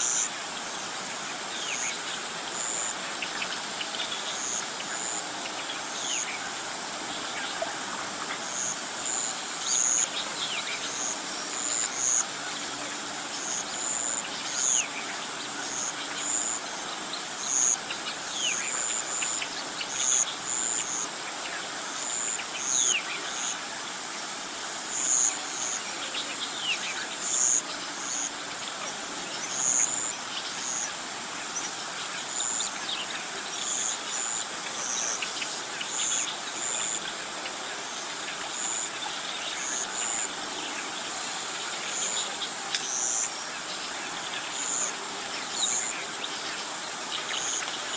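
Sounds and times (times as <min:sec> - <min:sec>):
high insect chirps: 0:00.0 - 0:47.9
steady hiss: 0:00.0 - 0:47.9.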